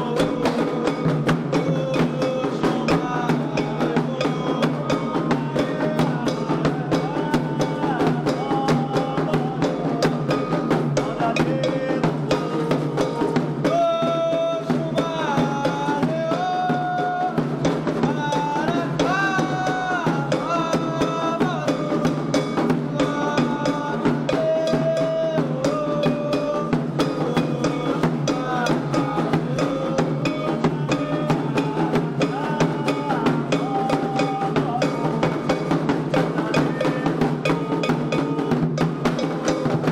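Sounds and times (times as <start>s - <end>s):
hand drums playing: 0.0s - 39.9s
person singing: 0.0s - 39.9s.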